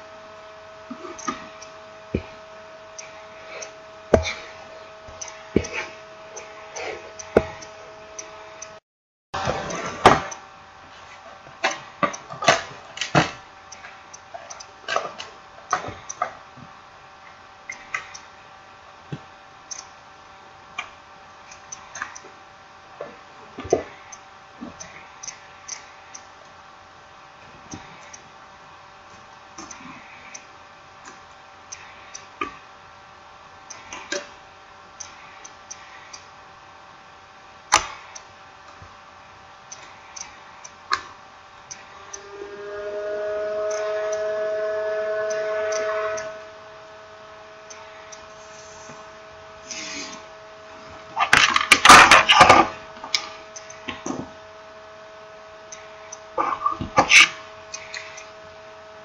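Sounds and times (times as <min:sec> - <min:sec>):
faint steady hum: 0:00.0 - 0:08.8, 0:09.4 - 0:59.0.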